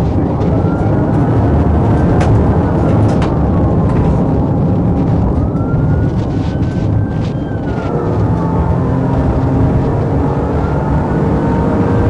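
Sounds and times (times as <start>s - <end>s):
car road rumble on gravel: 0.0s - 11.2s
faint siren wailing: 0.0s - 12.0s.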